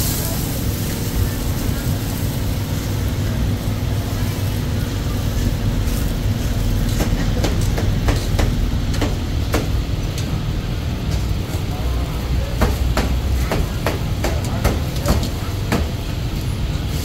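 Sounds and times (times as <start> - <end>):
low rumble of street traffic: 0.0 - 17.0.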